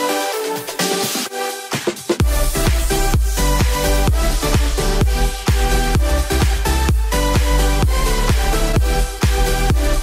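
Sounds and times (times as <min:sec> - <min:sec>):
electronic dance music: 0:00.0 - 0:10.0
heavy bass and kick drum: 0:01.8 - 0:10.0.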